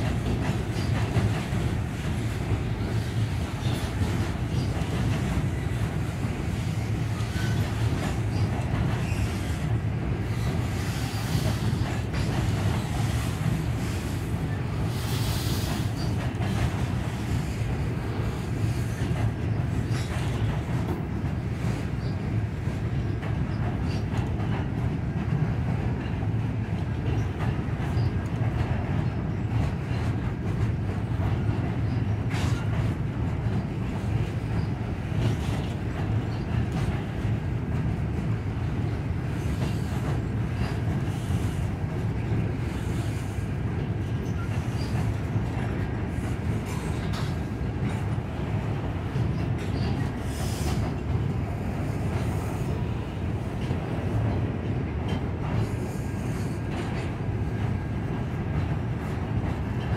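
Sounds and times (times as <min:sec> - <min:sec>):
freight train rumbling over bridge: 0:00.0 - 0:59.9
train clanks: 0:00.0 - 0:59.9.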